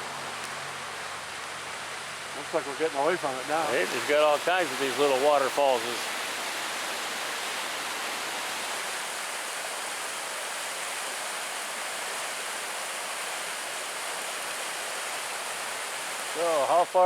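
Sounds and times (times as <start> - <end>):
stream rushing over waterfalls: 0.0 - 17.0.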